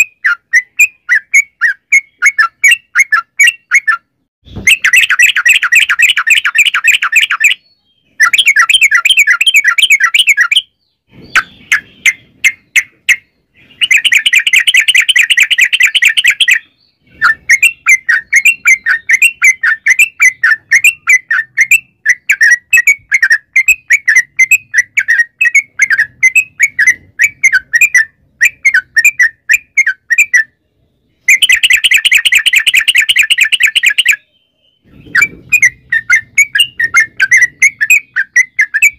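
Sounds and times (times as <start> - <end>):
bird singing fast rolling trills: 0.0 - 38.9.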